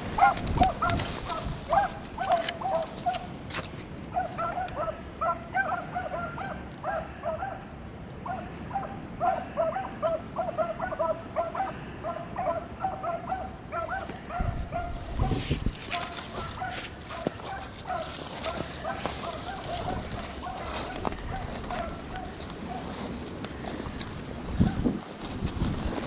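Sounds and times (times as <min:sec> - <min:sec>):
beagles baying: 0:00.0 - 0:25.2.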